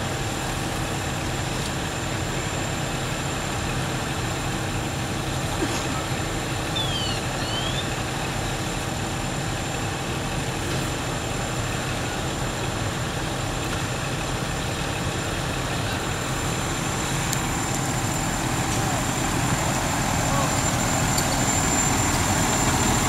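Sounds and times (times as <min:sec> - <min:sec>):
fire engine idling: 0:00.0 - 0:23.0.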